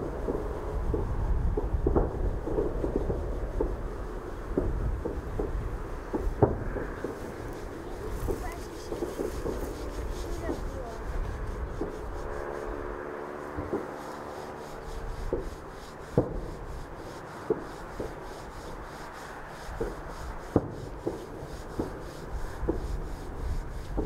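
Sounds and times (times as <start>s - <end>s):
distant fireworks bangs: 0.0s - 24.0s
low wind rumble: 0.0s - 24.0s.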